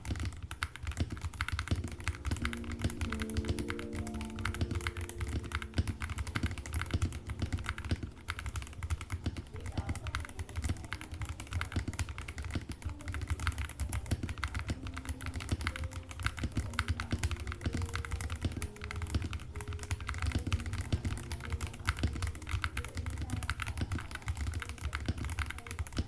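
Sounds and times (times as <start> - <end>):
mechanical keyboard fast typing: 0.0 - 26.0.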